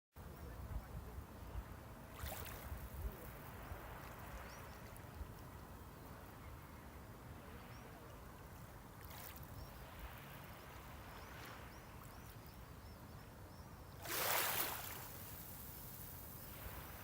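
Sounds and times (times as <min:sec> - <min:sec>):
small waves washing on shore: 0:01.1 - 0:12.7, 0:13.9 - 0:17.0.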